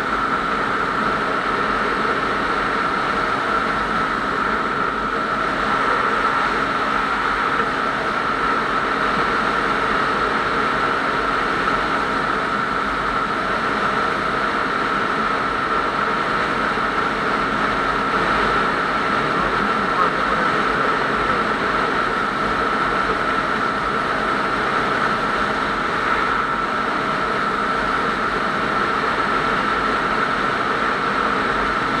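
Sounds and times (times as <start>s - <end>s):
engine drone: 0.0s - 32.0s
steady high whine: 0.0s - 32.0s.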